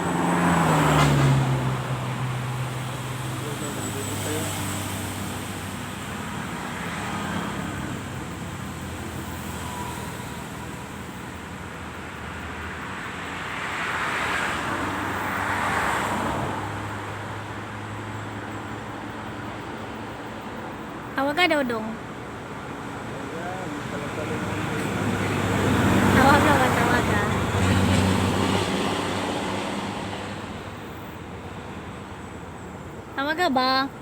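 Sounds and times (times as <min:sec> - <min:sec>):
vehicle passing: 0:00.0 - 0:34.0.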